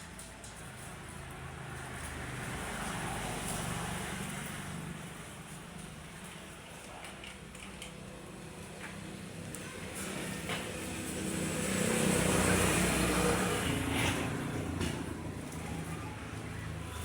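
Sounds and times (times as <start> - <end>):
road vehicle passing by: 0.1 - 6.6, 8.1 - 17.0.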